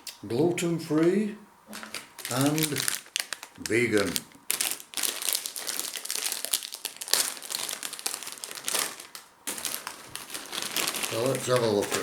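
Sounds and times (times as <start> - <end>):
plastic snack packet crinkling: 1.7 - 12.0.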